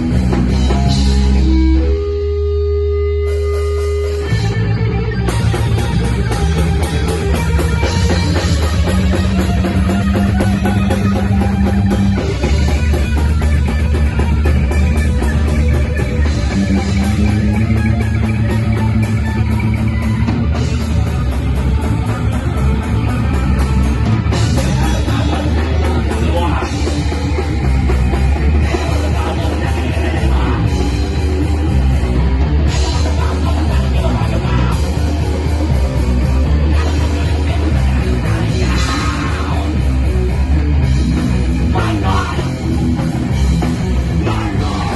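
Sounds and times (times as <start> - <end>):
bass guitar: 0.0 - 44.9
drum kit and cymbals: 0.0 - 44.9
electric guitar: 0.0 - 44.9.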